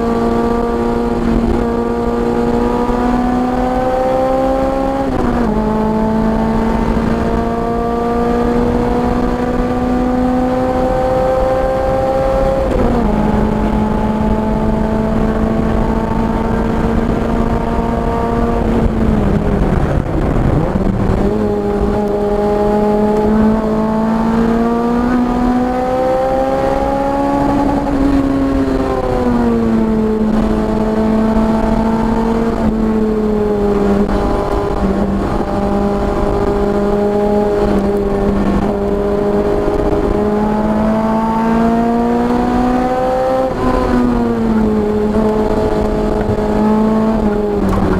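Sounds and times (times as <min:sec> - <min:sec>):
race car engine shifting gears: 0:00.0 - 0:47.9.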